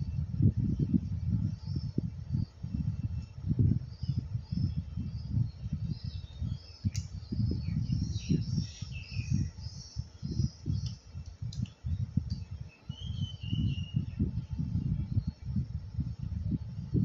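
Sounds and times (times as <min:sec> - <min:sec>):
birds chirping: 0:01.5 - 0:15.7.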